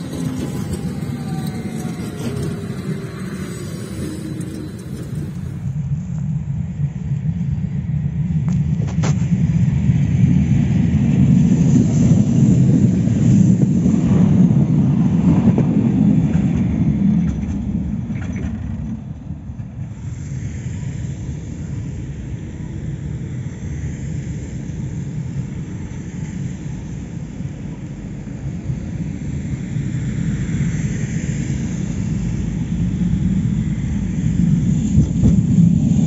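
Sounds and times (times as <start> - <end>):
tram wheels rumbling on rails: 0.0 - 9.4, 10.4 - 36.0.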